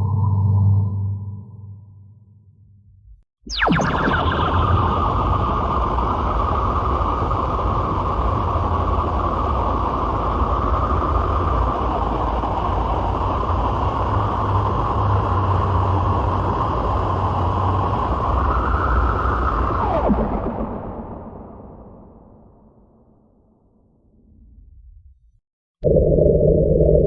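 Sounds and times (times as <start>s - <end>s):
spaceship hum and rumble drone: 0.0s - 27.0s.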